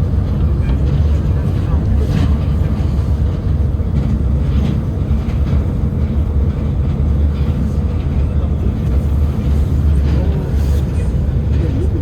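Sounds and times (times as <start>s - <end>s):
monorail train low rumble: 0.0s - 12.0s.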